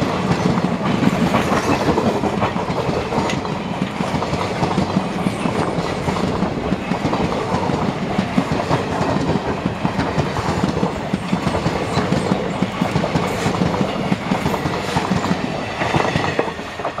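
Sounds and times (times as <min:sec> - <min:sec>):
train wheels clattering on track: 0:00.0 - 0:17.0.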